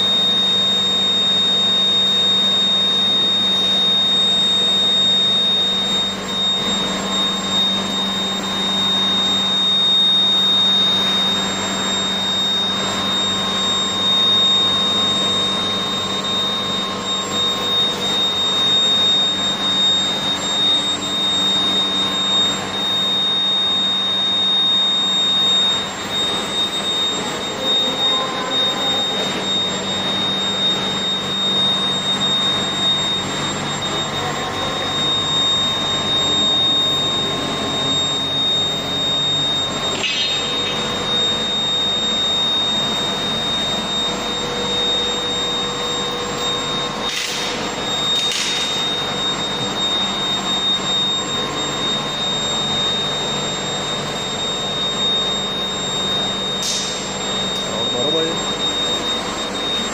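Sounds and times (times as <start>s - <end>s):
constant high whine: 0.0s - 59.9s
industrial drone: 0.0s - 59.9s.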